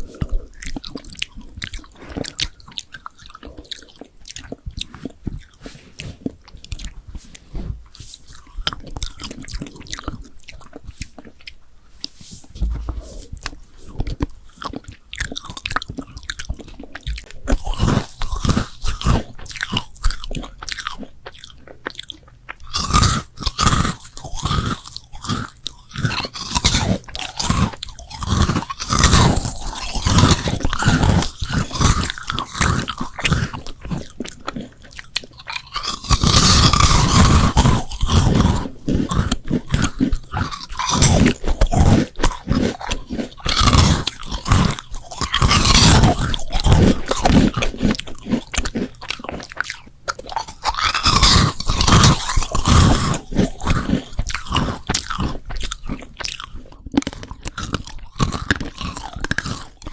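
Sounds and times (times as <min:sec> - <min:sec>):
crunchy bites and chewing: 0:00.0 - 0:59.9.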